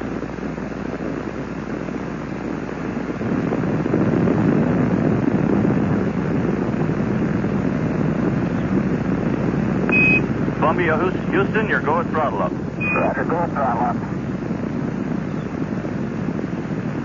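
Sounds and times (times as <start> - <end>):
rocket engines rumbling: 0.0 - 17.0.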